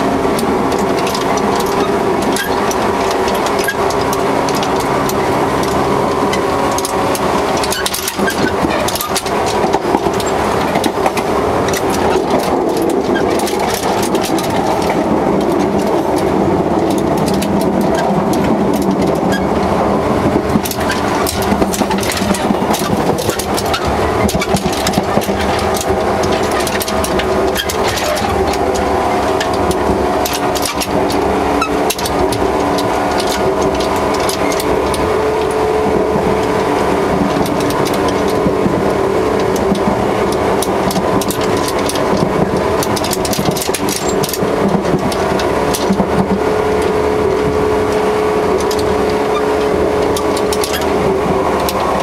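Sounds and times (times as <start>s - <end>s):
train running hum: 0.0s - 52.0s.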